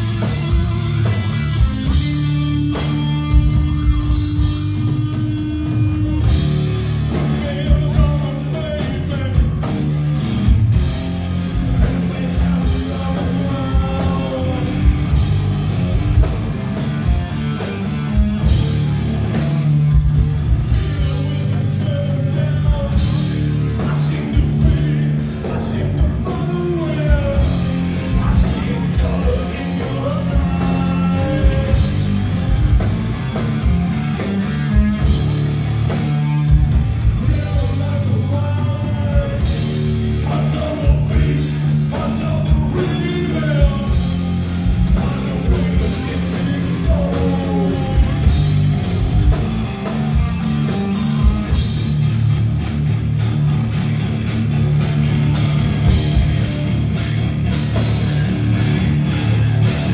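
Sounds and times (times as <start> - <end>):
heavy rock band playing live: 0.0 - 59.9.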